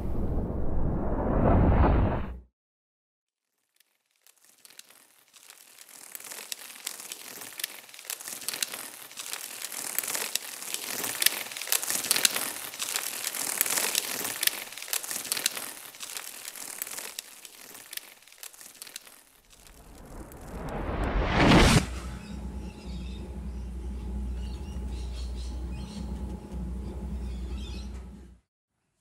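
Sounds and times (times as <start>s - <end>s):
dense crackling clicks: 3.6s - 28.2s.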